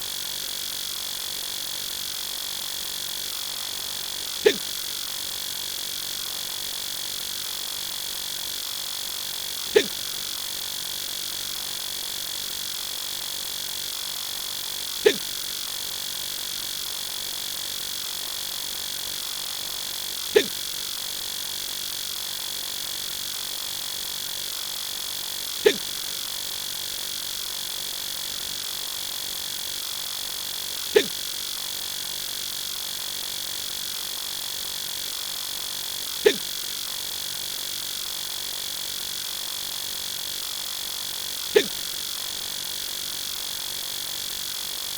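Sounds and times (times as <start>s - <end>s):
electronic hum with high whine: 0.0s - 44.9s.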